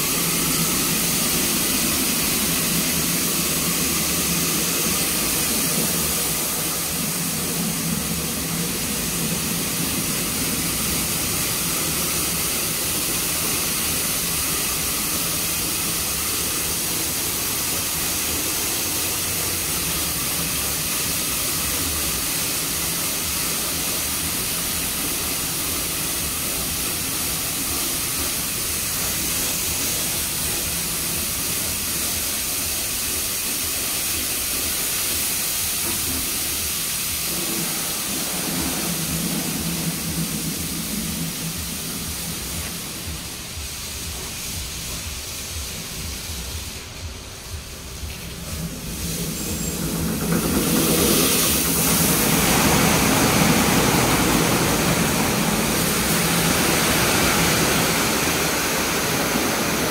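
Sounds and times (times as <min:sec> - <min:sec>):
water jets hissing: 0:00.0 - 0:59.9.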